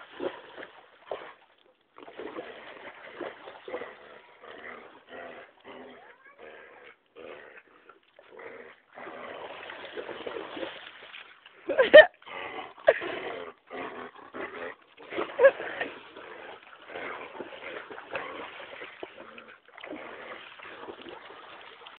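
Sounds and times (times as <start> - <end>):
dog splashing through water: 0.0 - 6.4, 8.0 - 13.6, 14.7 - 22.0.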